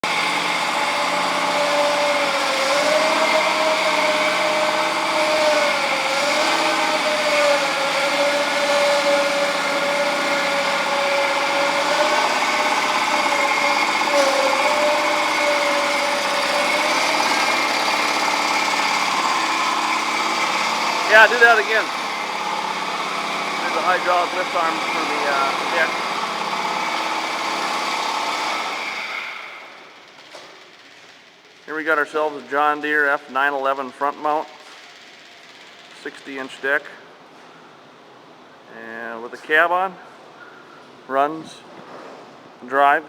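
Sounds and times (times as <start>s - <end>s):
mower engine running: 0.0s - 33.1s, 33.7s - 36.5s.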